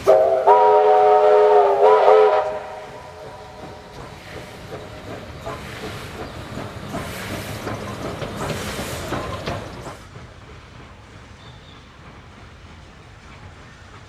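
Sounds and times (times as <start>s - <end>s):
steam hissing: 0.0s - 14.0s
steam locomotive exhaust beats: 0.0s - 14.0s.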